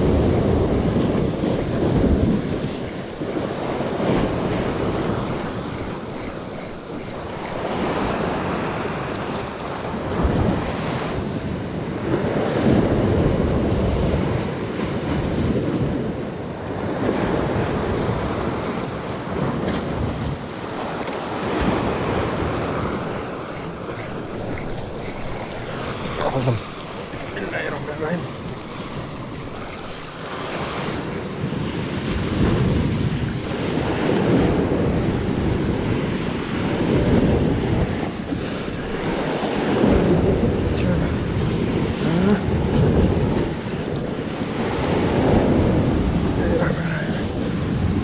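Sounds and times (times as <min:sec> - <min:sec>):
sea waves breaking on rocks: 0:00.0 - 0:48.0
wind buffeting microphone: 0:00.0 - 0:48.0.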